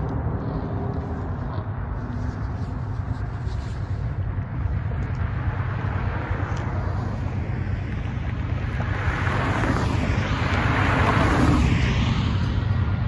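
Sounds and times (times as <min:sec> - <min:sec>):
cars driving past: 0:00.0 - 0:13.0
low wind rumble on microphone: 0:00.0 - 0:13.0.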